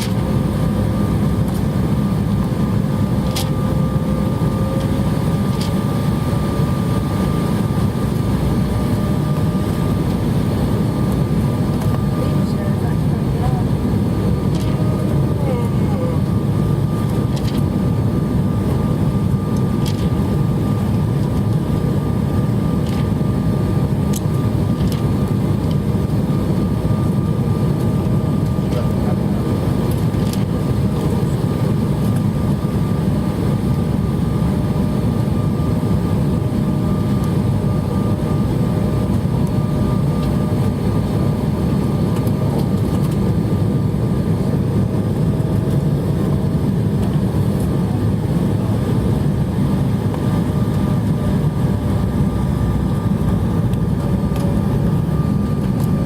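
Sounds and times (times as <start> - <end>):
jet engine cabin roar: 0.0 - 56.0.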